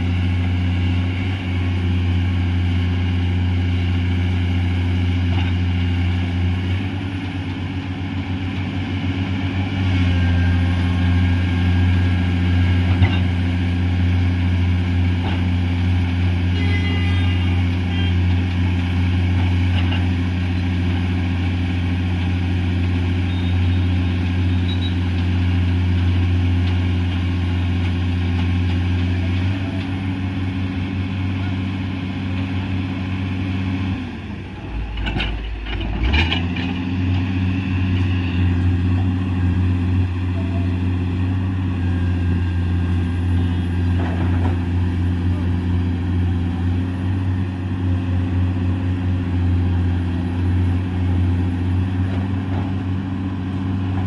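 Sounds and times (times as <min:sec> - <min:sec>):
excavator diesel engine drone: 0:00.0 - 0:54.0.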